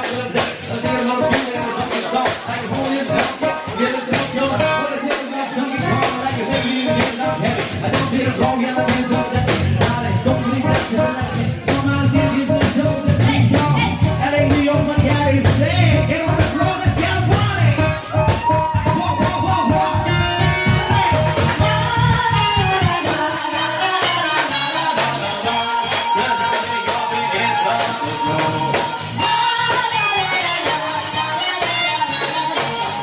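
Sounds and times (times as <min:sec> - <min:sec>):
drum kit beat: 0:00.0 - 0:33.0
live band dance music: 0:00.0 - 0:33.0
person singing: 0:00.0 - 0:33.0.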